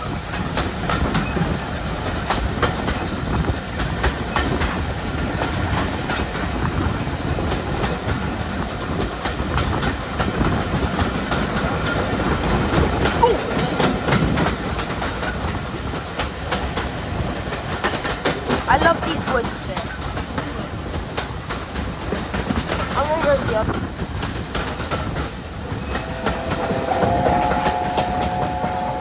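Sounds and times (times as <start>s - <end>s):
wheels clicking over rail joints: 0.0s - 28.8s
train rumbling along track: 0.0s - 29.0s.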